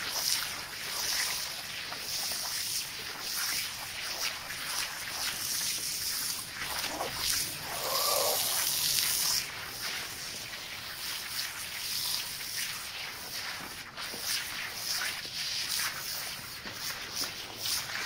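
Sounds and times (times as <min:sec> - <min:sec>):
scrubbing wet rug: 0:01.6 - 0:18.0.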